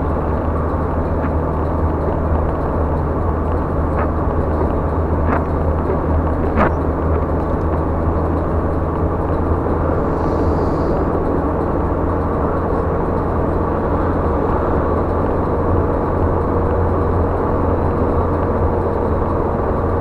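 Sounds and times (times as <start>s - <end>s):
car engine and tyres droning: 0.0s - 20.0s.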